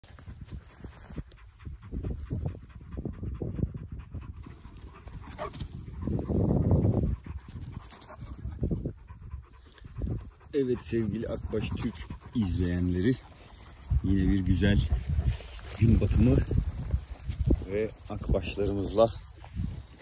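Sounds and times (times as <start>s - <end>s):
dog panting: 0.1s - 20.0s.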